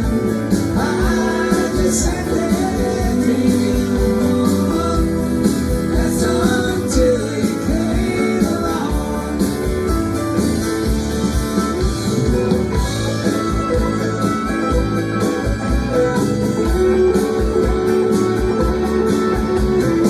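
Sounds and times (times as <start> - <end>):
bass: 0.0 - 20.0
guitar: 0.0 - 20.0
steady drum beat: 0.0 - 20.0.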